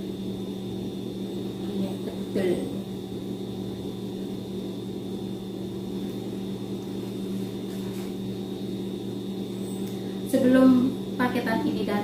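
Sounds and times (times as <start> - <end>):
faint high whine: 0.0 - 12.0
low electrical hum: 0.0 - 12.0.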